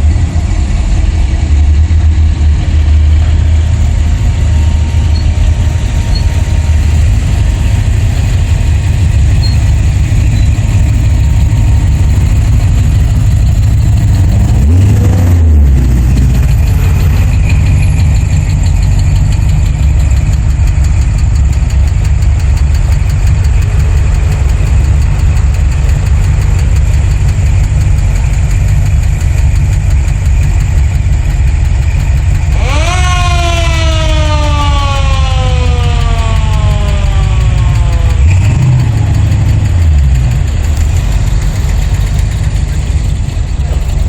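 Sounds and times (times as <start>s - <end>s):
car engine revving: 0.0s - 44.0s
car engines rumbling: 0.0s - 44.0s
pitched whine: 0.0s - 44.0s.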